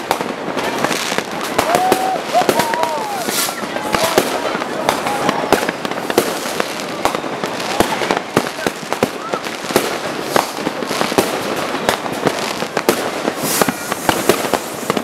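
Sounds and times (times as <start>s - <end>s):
distant fireworks explosions: 0.0s - 15.0s
firecrackers banging: 0.0s - 15.0s.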